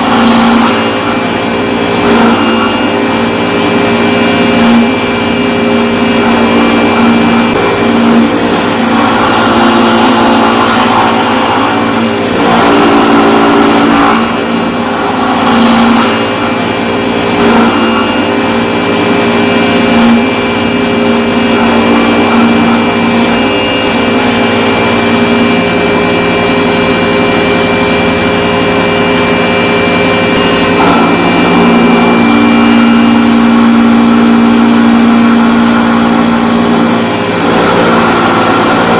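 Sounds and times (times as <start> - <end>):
power tool motor running: 0.0 - 38.9.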